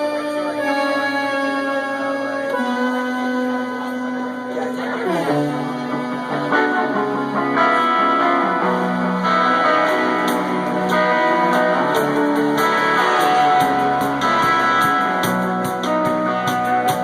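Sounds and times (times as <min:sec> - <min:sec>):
amplified guitar music: 0:00.0 - 0:17.0.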